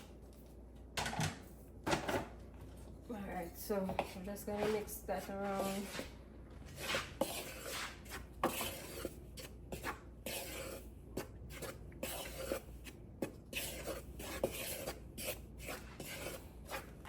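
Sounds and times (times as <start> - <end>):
dry ingredients stirred in bowl: 2.8 - 17.0.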